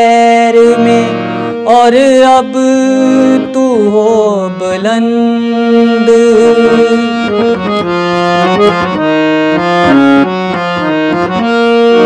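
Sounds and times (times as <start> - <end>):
harmonium playing: 0.0 - 12.0.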